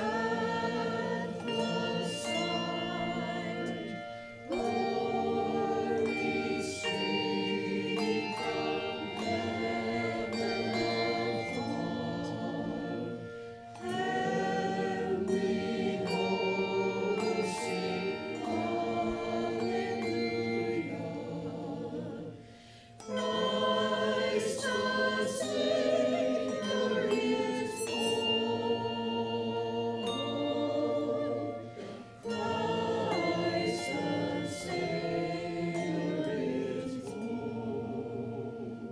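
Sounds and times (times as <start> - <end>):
church choir singing: 0.0 - 38.9.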